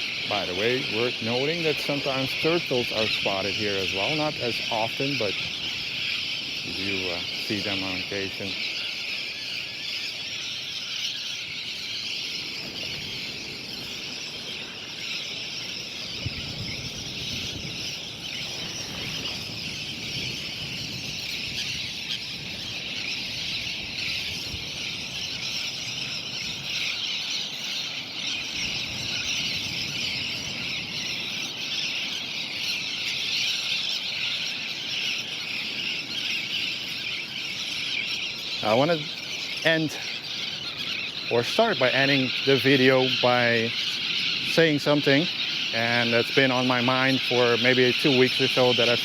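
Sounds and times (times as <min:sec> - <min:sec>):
gulls calling: 0:00.0 - 0:49.0.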